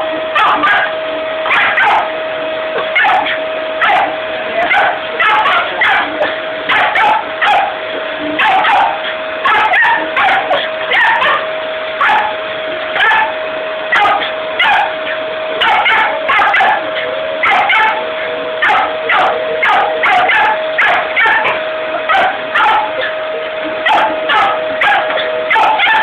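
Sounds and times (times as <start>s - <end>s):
vacuum cleaner whine: 0.0s - 26.0s
small dog barking: 0.4s - 2.1s, 2.8s - 23.2s, 23.8s - 26.0s.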